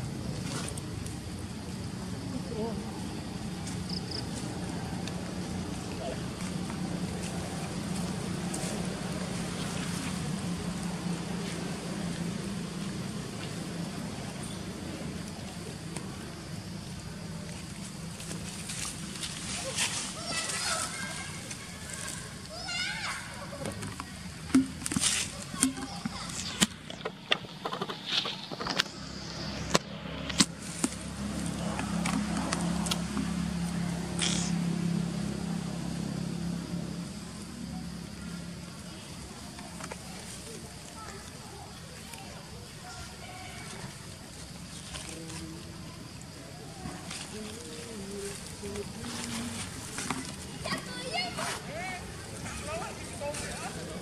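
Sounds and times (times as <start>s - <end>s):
low engine hum: 0.0s - 54.0s.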